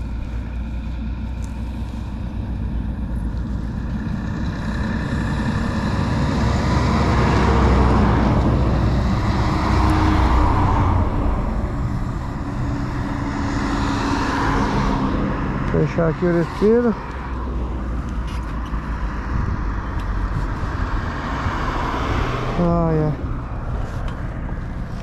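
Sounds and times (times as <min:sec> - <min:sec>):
road vehicle passing: 0:00.0 - 0:25.0.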